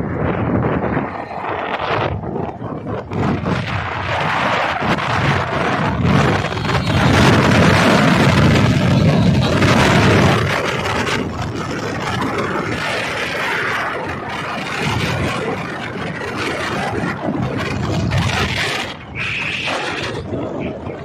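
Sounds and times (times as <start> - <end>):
vehicle running and road noise: 0.0 - 21.0
wind on microphone: 0.0 - 21.0.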